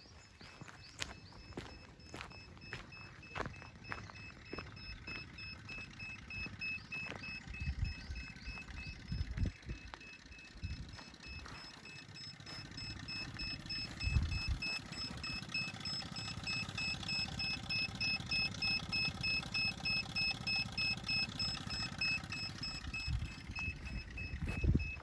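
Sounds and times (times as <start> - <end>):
electronic alarm beeping rapidly: 0.0 - 25.0.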